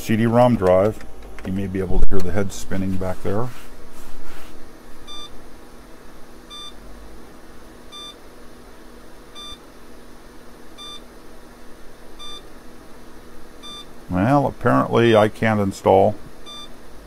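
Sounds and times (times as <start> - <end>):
computer low hum: 0.0 - 17.0.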